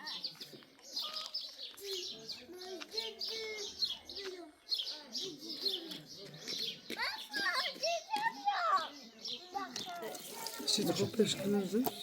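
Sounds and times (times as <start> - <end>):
faint voices: 0.0 - 12.0
small birds chirping: 0.0 - 12.0.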